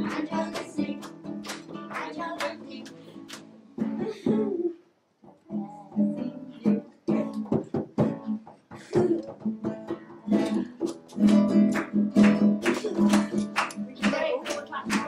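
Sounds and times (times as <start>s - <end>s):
acoustic guitar strumming: 0.0s - 4.4s, 5.5s - 15.0s.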